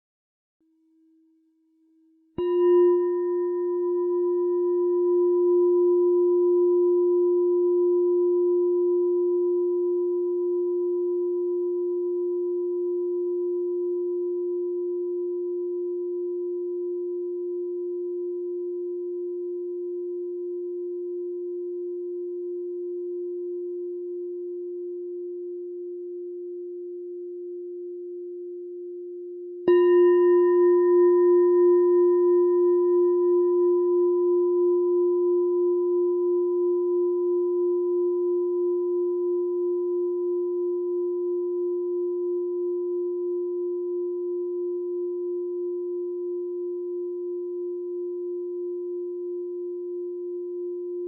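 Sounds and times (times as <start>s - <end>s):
meditation bell ringing: 2.4s - 51.0s.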